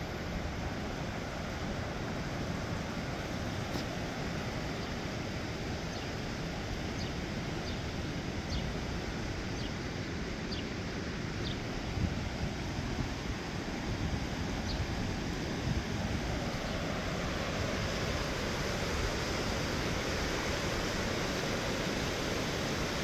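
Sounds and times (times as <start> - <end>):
river whitewater over rocks: 0.0 - 23.0.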